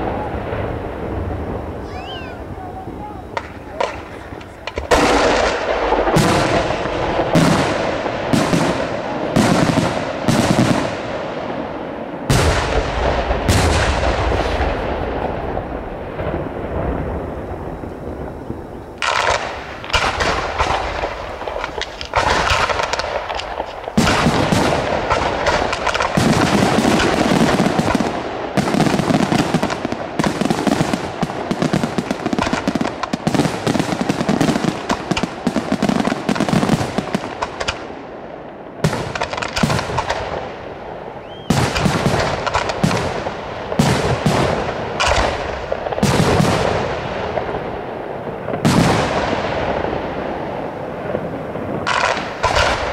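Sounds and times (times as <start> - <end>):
fireworks crackling: 0.0 - 52.9.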